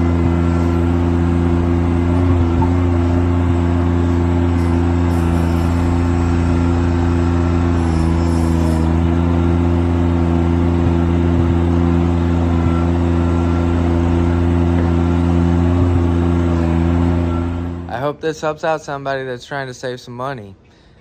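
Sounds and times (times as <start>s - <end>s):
tractor diesel engine droning: 0.0s - 19.6s.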